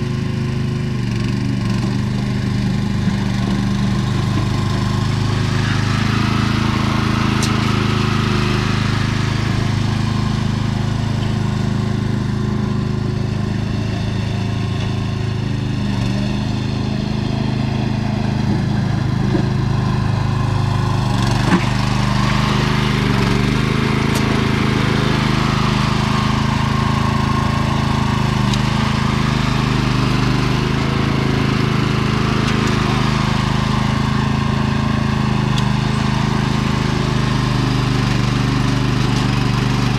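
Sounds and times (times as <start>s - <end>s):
garden tractor engine under load: 0.0s - 39.9s.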